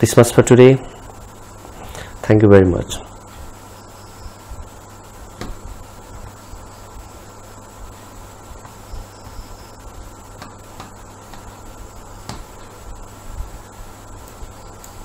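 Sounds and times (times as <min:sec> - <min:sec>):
electrical hum and hiss: 0:00.0 - 0:15.0
faint high whine: 0:00.0 - 0:15.0.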